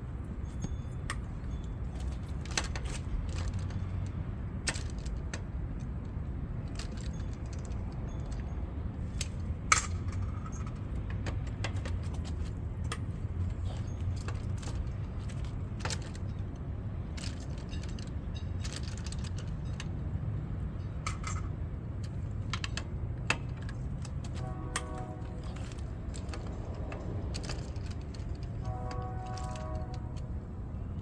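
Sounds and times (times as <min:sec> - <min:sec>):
metal tools clinking: 0:00.2 - 0:05.9, 0:06.6 - 0:30.4.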